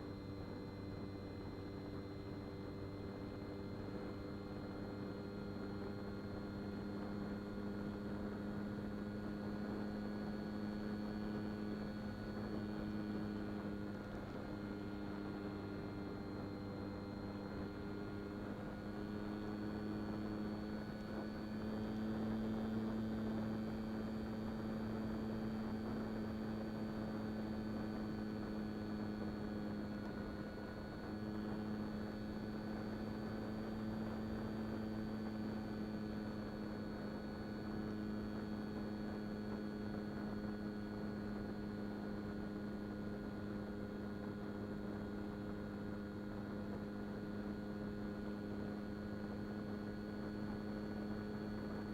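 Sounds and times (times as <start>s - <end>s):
electric motor and propeller whine: 0.0s - 51.9s.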